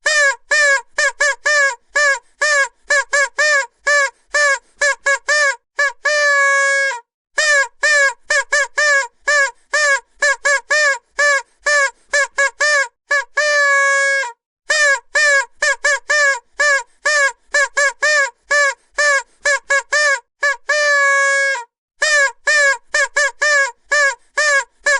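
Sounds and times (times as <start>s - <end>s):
vuvuzela toots: 0.0s - 24.9s.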